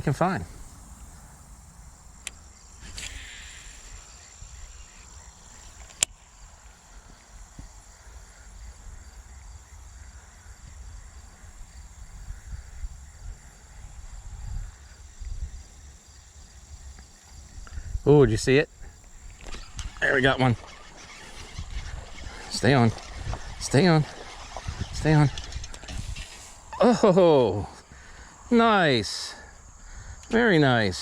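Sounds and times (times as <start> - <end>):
wind rumble on microphone: 0.0 - 26.8
insects droning: 0.0 - 31.0.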